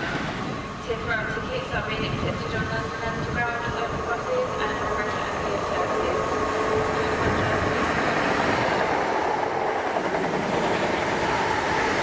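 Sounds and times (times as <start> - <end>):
electric train running past: 0.0 - 12.0.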